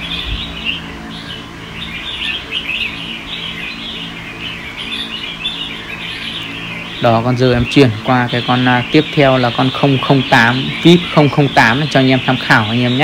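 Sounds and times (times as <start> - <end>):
birds chirping: 0.0 - 13.0
faint low hum: 0.0 - 13.0.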